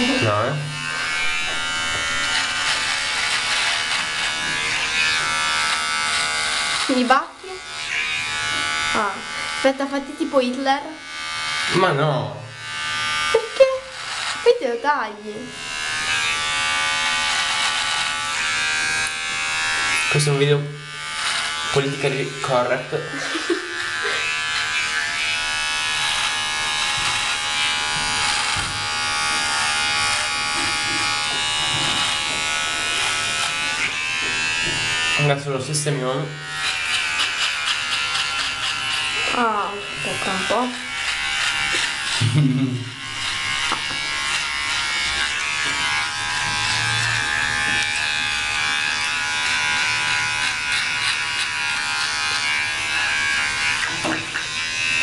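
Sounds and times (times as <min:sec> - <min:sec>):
electric trimmer buzzing: 0:00.0 - 0:55.0.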